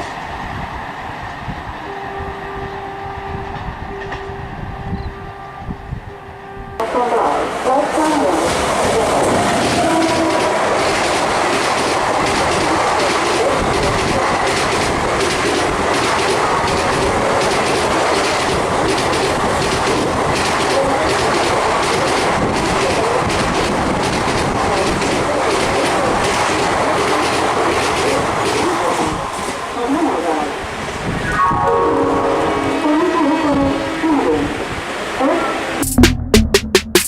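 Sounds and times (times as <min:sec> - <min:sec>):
train rumbling at speed: 0:00.0 - 0:31.2.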